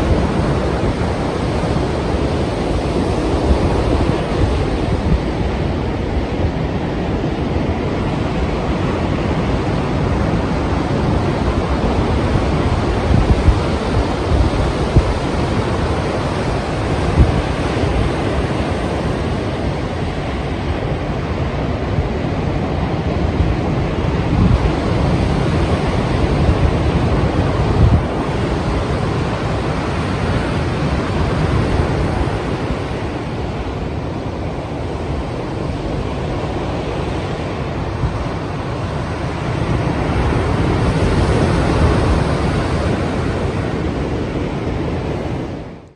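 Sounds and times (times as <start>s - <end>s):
sea surf breaking: 0.0s - 45.9s
wind buffeting microphone: 0.0s - 45.9s.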